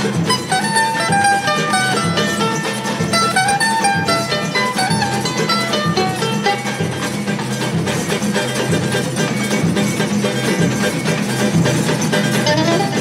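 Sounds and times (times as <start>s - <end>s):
mandolin picking quick melody: 0.0s - 13.0s
strummed guitar: 0.0s - 13.0s.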